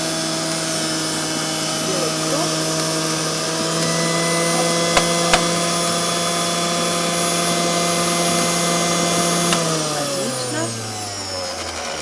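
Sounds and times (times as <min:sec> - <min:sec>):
electric juicer motor humming: 0:00.0 - 0:12.0.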